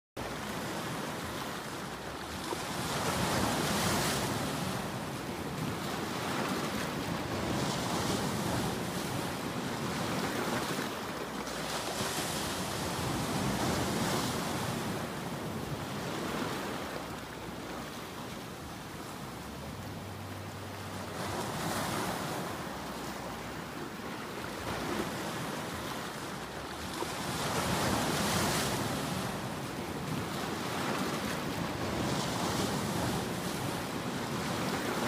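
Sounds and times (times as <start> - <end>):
ocean surf breaking on rocks: 0.2 - 35.0.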